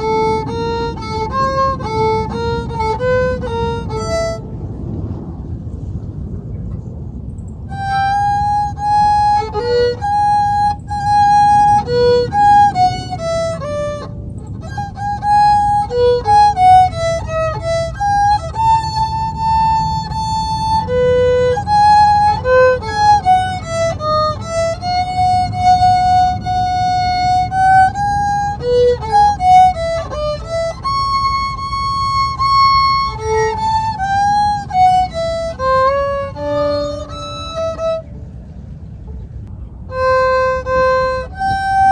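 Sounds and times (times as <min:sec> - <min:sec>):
solo violin melody: 0:00.0 - 0:05.3, 0:07.6 - 0:41.9
low background rumble: 0:00.0 - 0:41.9.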